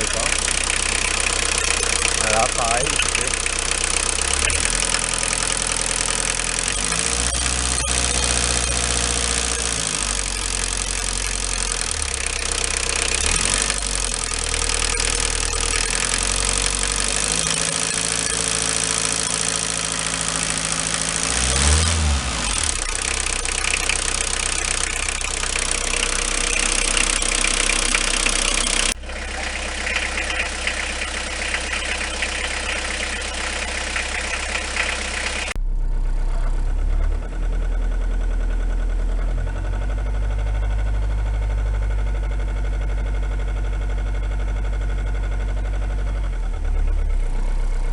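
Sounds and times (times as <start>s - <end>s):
diesel engine revving: 0.0s - 47.9s
engine knock: 0.0s - 47.9s.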